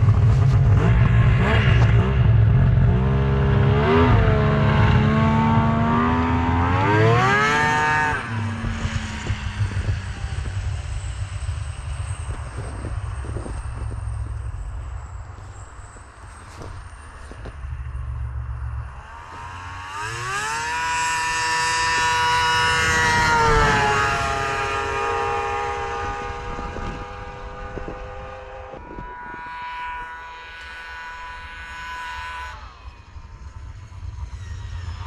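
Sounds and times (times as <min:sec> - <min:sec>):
snowmobile engine revving past: 0:00.0 - 0:14.2, 0:18.8 - 0:33.2.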